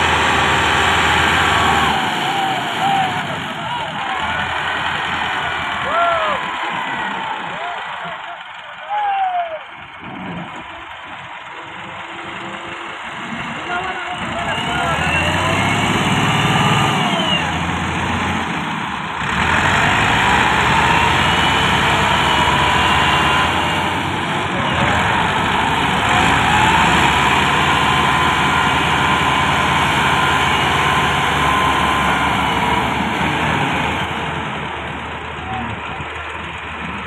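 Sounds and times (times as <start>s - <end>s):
tractor diesel engines running hard: 0.0s - 37.0s.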